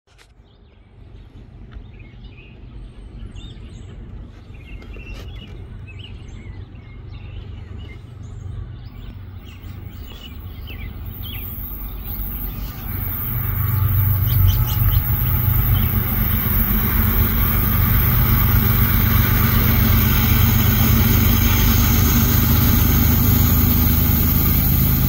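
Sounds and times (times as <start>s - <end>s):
songbirds chirping: 0.1s - 23.2s
freight train rumble: 0.7s - 25.0s.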